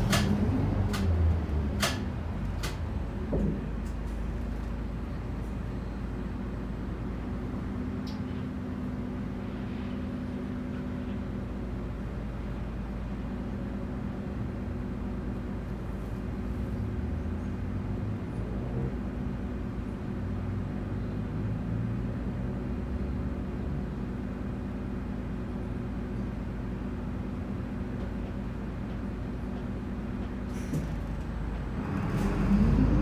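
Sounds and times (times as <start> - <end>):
bus diesel engine hum: 0.0 - 33.0.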